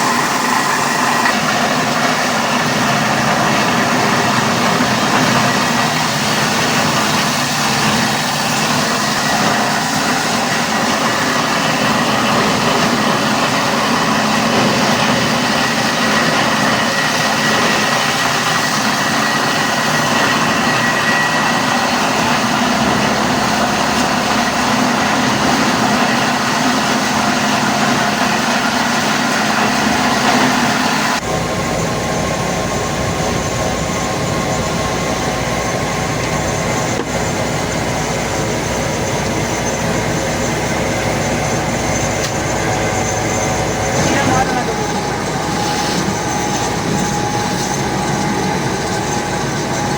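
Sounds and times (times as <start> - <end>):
factory machinery rumbling and clattering: 0.0 - 49.9.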